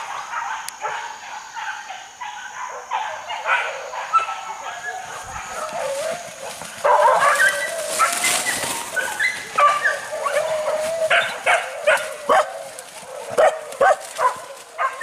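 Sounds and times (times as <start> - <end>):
dogs yelping: 0.0 - 15.0
hunting dogs baying: 0.0 - 15.0.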